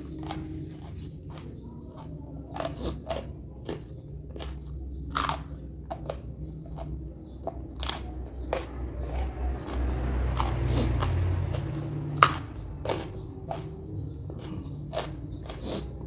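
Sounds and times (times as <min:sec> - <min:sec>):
person chewing crunchy vegetables: 0:00.0 - 0:16.0.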